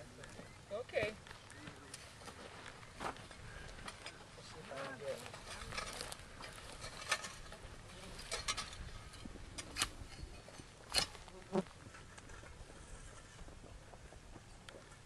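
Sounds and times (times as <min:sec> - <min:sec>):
tools scraping rocky ground: 0:01.1 - 0:15.0.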